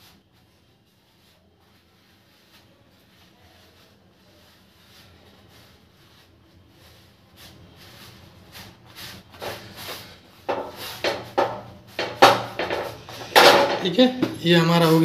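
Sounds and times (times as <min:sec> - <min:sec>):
cloth rubbing roti on griddle: 0:00.0 - 0:15.0.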